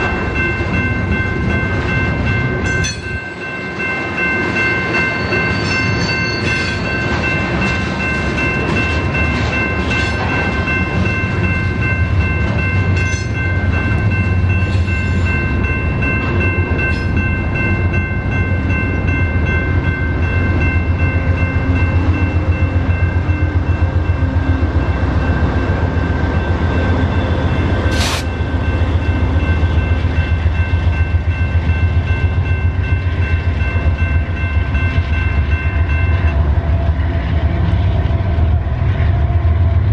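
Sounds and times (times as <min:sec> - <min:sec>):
freight train rumbling and rattling: 0:00.0 - 0:39.9.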